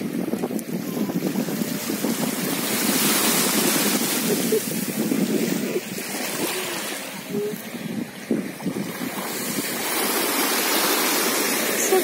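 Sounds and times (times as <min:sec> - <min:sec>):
small waves lapping at shore: 0:00.0 - 0:12.0
wind buffeting microphone: 0:00.0 - 0:12.0.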